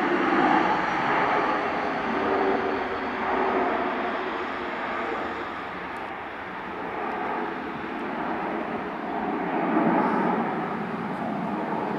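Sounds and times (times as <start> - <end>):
jet engines rushing: 0.0 - 11.9.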